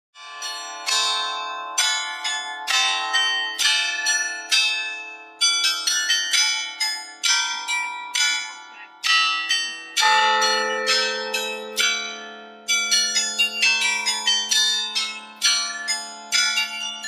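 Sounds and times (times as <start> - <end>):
bells ringing a tune: 0.2 - 17.0.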